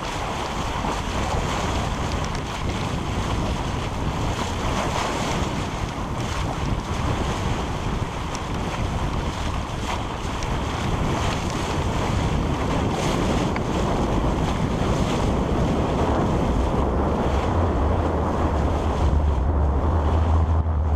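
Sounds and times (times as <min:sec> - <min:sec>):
water rushing past hull: 0:00.0 - 0:20.9
wind buffeting microphone: 0:00.0 - 0:20.9.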